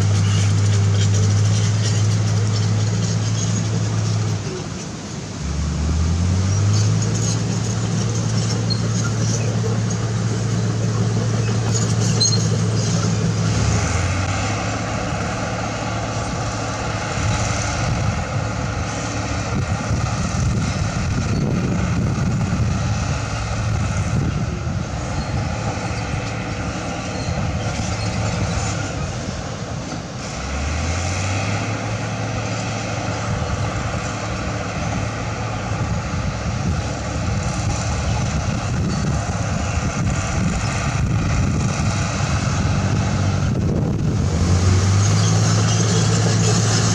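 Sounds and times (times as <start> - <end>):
heavy machinery diesel engines: 0.0 - 46.9.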